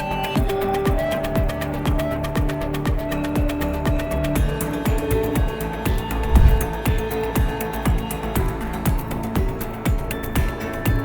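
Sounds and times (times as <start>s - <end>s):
electronic music with kick drums: 0.0s - 11.0s.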